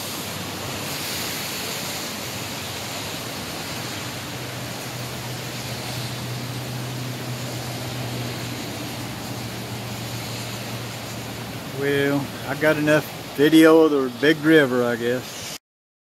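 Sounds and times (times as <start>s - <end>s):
river roaring: 0.0s - 15.6s.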